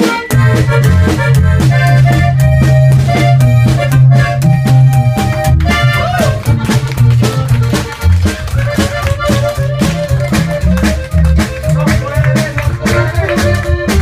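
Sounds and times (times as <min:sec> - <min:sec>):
accordion melody: 0:00.0 - 0:14.0
drum beat: 0:00.0 - 0:14.0
pulsing bass line: 0:00.0 - 0:14.0.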